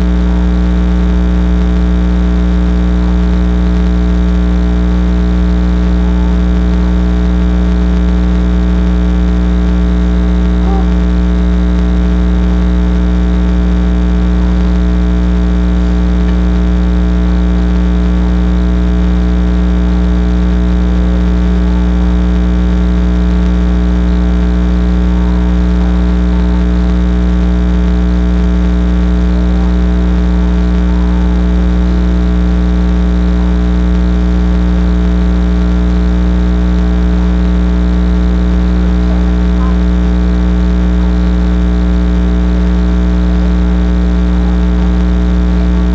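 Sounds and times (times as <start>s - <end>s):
loud electrical hum: 0.0s - 45.9s.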